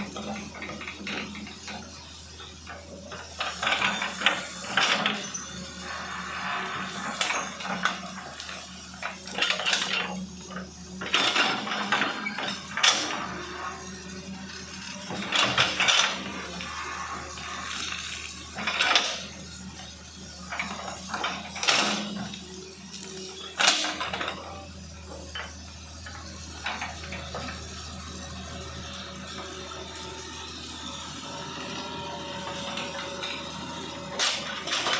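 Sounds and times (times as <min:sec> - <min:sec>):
excavator engine humming: 0:00.0 - 0:34.9
metallic clanking and scraping: 0:00.0 - 0:34.9.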